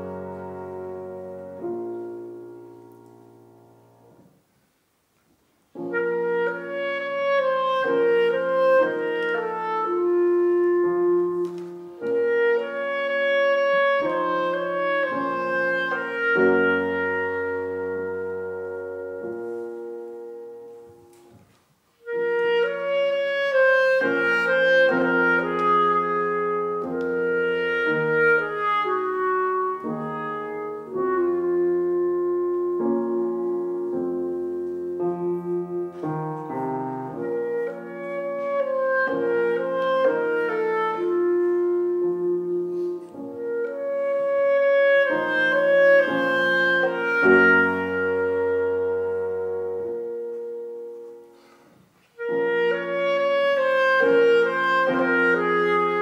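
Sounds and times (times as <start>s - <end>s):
clarinet: 0.0s - 4.4s, 5.7s - 56.0s
grand piano: 0.0s - 56.0s.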